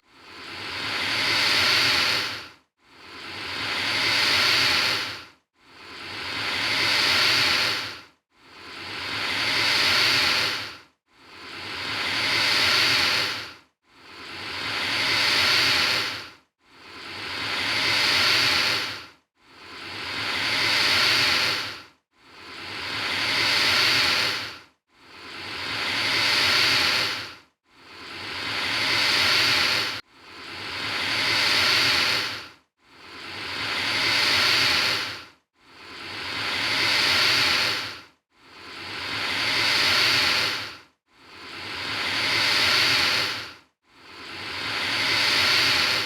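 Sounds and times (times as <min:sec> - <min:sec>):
alligator hissing: 0:00.2 - 0:02.4, 0:03.1 - 0:08.0, 0:08.6 - 0:16.2, 0:16.9 - 0:21.8, 0:22.4 - 0:24.6, 0:25.2 - 0:38.0, 0:38.6 - 0:40.7, 0:41.4 - 0:46.0.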